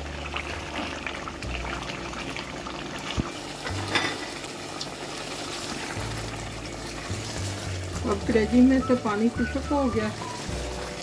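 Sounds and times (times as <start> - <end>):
gravy bubbling and sizzling: 0.0 - 11.0.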